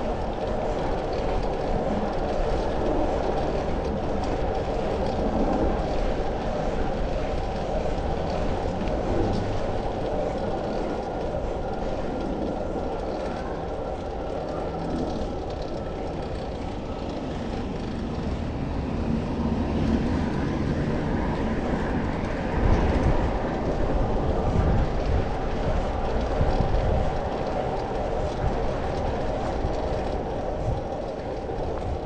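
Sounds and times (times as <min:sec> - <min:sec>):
city traffic rumble: 0:00.0 - 0:32.0.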